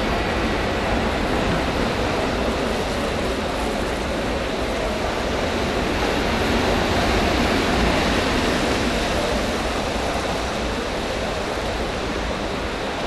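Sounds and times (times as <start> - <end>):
indoor hall noise: 0.0 - 13.0.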